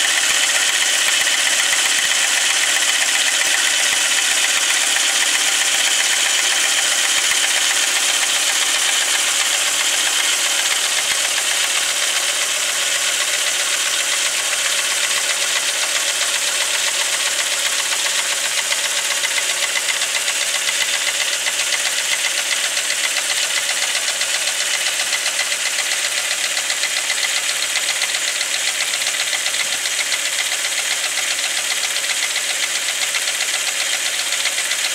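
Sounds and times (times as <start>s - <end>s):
car engine running: 0.0s - 34.9s
fast knocking inside engine: 0.0s - 34.9s.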